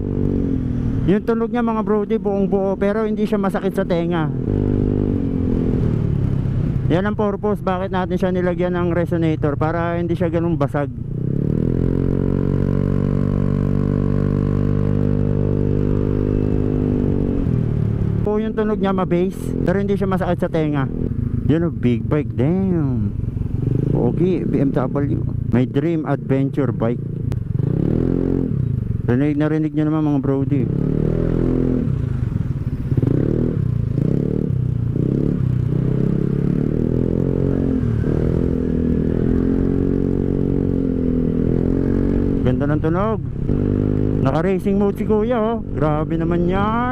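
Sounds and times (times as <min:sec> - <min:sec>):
scooter engine at steady revs: 0:00.0 - 0:46.9.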